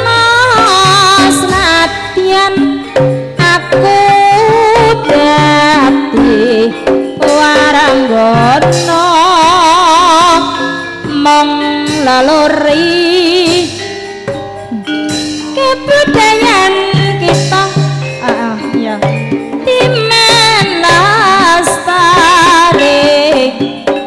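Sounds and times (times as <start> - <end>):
woman singing into microphone: 0.0 - 13.9, 14.6 - 24.0
gamelan music: 0.0 - 24.0
hand drum strokes: 0.0 - 24.0.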